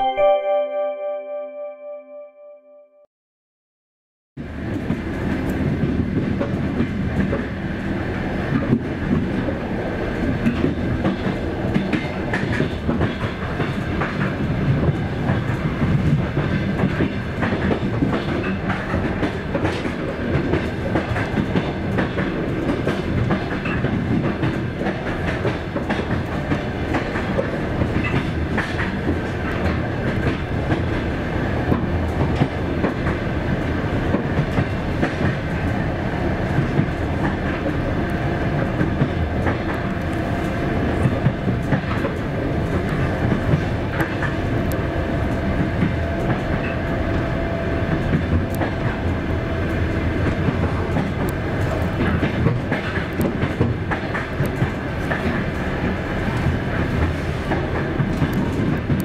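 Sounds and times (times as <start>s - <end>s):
train running gear rumble: 4.4s - 59.0s.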